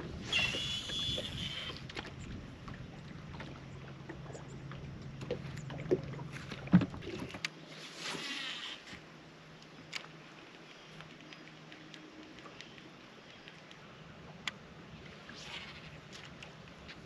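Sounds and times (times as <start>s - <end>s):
trolling motor humming: 0.0s - 17.0s.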